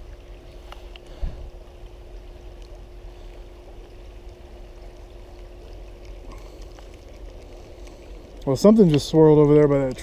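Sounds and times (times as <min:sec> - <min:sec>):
creek water flowing: 0:00.0 - 0:10.0
faint steady hum: 0:00.0 - 0:10.0.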